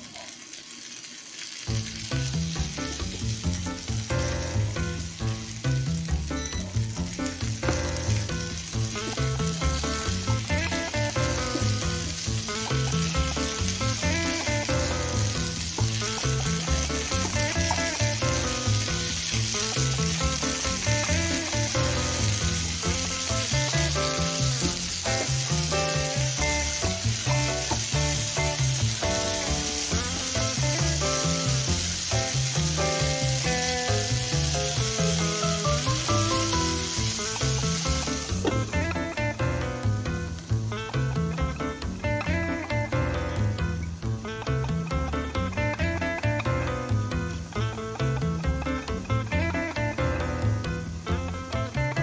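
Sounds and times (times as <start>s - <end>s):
food sizzling in a pan: 0.0s - 52.0s
background music: 1.7s - 52.0s.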